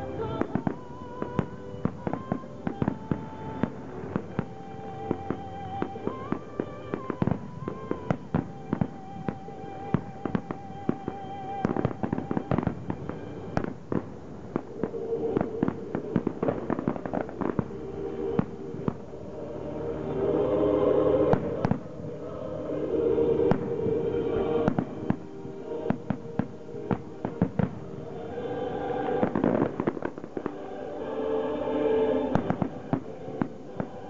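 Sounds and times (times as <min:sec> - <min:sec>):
fireworks bursting and crackling: 0:00.0 - 0:34.0
music: 0:00.0 - 0:34.0.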